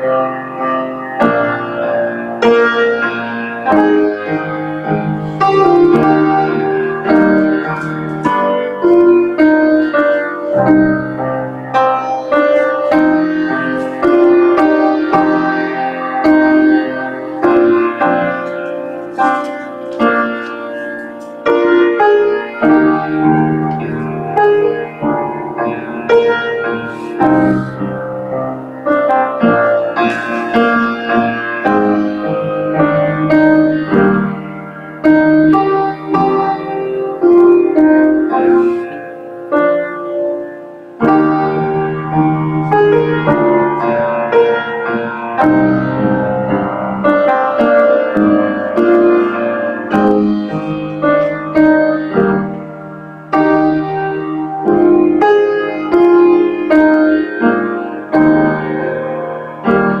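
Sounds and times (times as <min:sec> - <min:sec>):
slow piano piece: 0:00.0 - 1:00.0.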